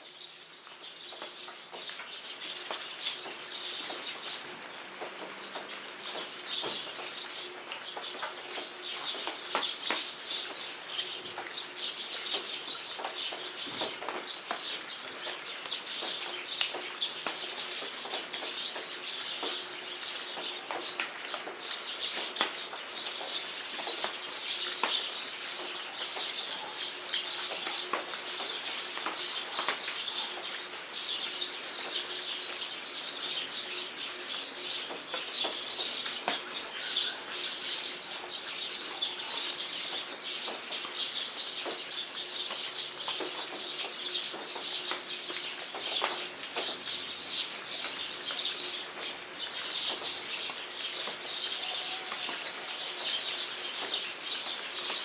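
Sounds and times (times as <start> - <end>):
small birds chirping: 0.0 - 55.0
steady rain with drips: 0.0 - 55.0.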